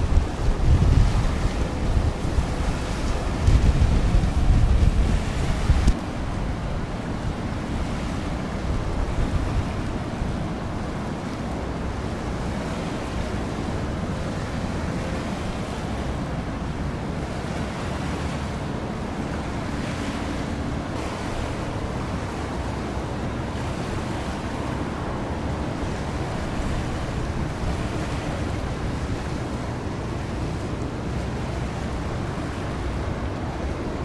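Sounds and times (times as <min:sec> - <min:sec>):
choppy sea water: 0:00.0 - 0:34.0
wind buffeting microphone: 0:00.0 - 0:34.0.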